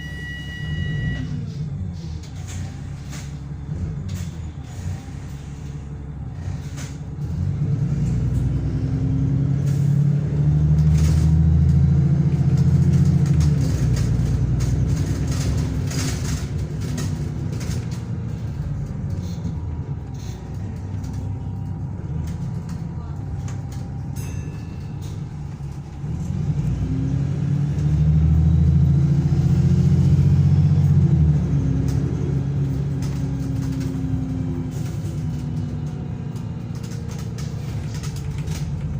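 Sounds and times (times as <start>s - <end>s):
bus diesel engine accelerating: 0.0s - 38.9s.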